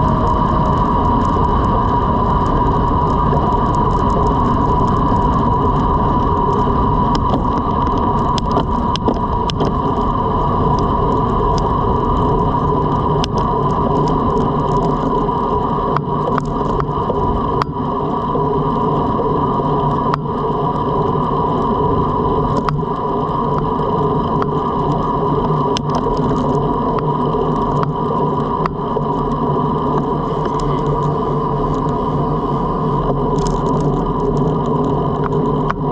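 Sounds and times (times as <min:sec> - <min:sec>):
tyres humming on road: 0:00.0 - 0:35.9
wind on microphone: 0:00.0 - 0:35.9.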